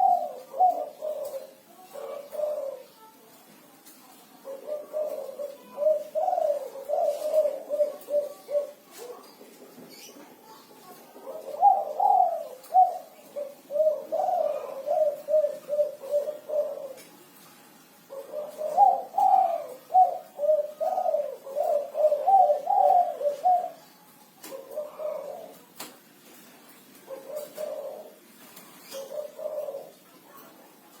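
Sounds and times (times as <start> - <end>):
dove cooing: 0.0 - 3.1, 4.3 - 10.2, 10.8 - 17.2, 18.0 - 26.0, 26.8 - 31.0.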